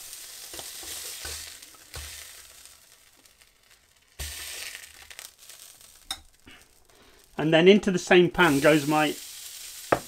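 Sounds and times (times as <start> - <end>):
fat sizzling in a skillet: 0.0 - 10.0.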